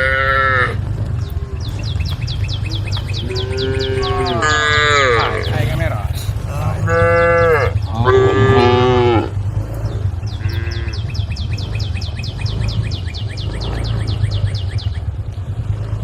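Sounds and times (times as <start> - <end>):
cows mooing: 0.0 - 16.0
steady low rumble: 0.0 - 16.0.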